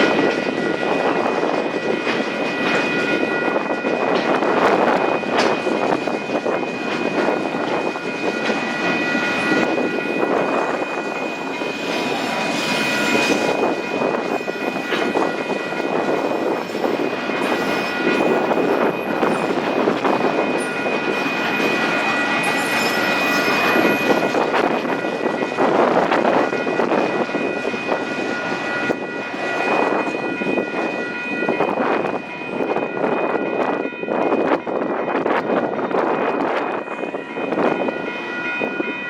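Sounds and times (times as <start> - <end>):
freight train rumbling past: 0.0 - 39.0
steady high tones: 0.5 - 35.2.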